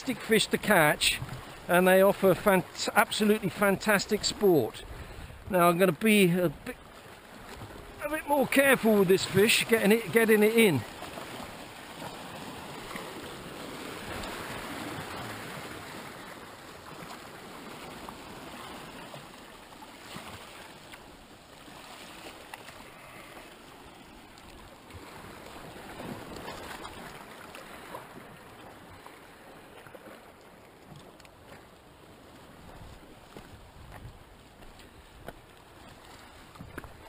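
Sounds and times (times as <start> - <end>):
surf washing against rocks: 0.0 - 37.0.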